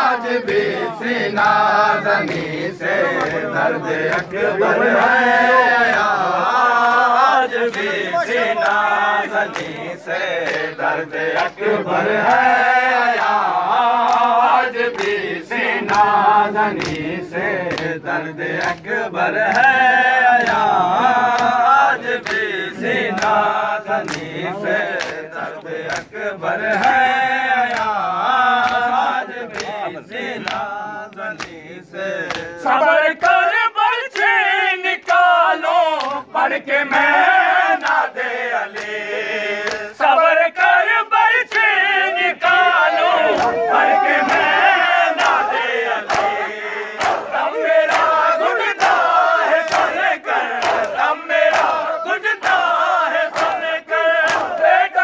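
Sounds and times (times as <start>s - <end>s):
men chanting in chorus: 0.0s - 55.0s
hands slapping chests: 1.3s - 5.1s, 6.8s - 33.5s, 35.9s - 36.3s, 36.9s - 40.0s, 42.4s - 54.9s.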